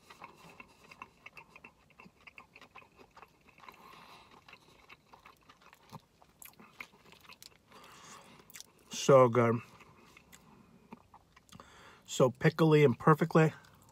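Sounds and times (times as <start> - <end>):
person chewing food: 0.0 - 12.1, 13.6 - 13.9.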